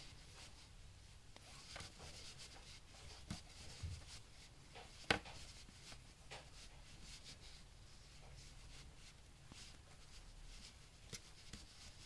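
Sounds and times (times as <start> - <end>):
knitting needles and yarn rubbing: 0.0 - 12.0.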